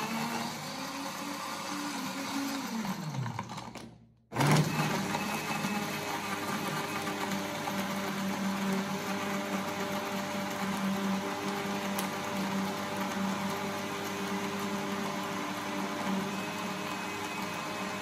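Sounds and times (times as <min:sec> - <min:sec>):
blender motor whine: 0:00.0 - 0:18.0.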